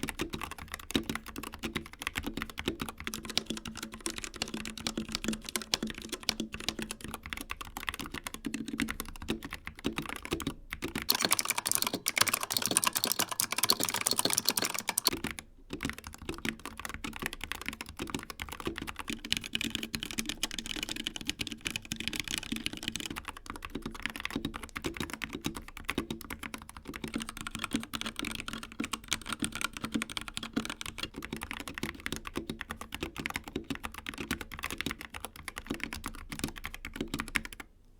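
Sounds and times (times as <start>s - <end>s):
mechanical keyboard typing: 0.0s - 37.7s.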